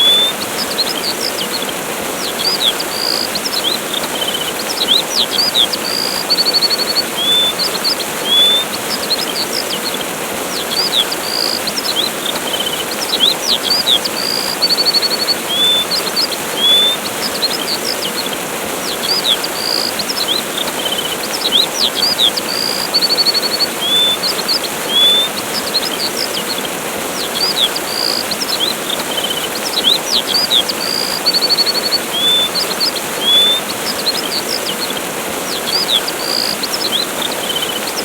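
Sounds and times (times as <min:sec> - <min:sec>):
songbirds chirping and trilling: 0:00.0 - 0:38.0
waterfall rushing: 0:00.0 - 0:38.0.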